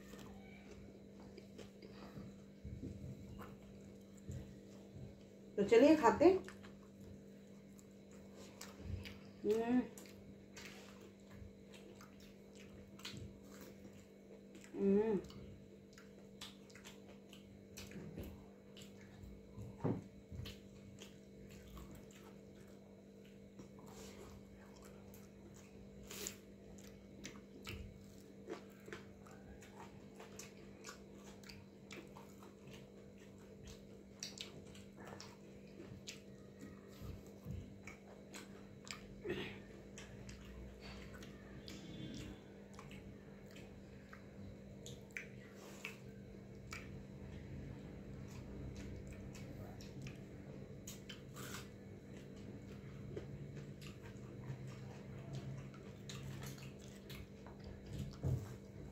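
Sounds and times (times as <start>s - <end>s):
chewing with soft smacks: 0.0s - 58.9s
steady low hum: 0.0s - 58.9s.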